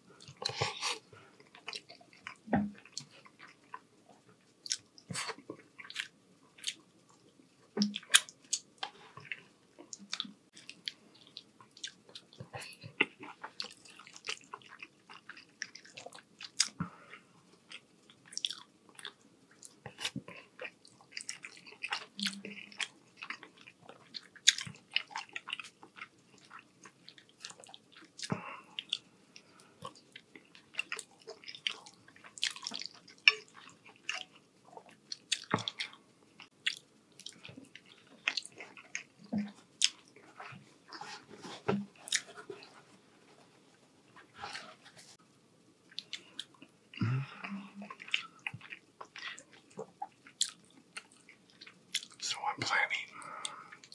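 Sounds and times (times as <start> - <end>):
person chewing with wet smacking: 0.2 - 43.5, 45.9 - 53.9.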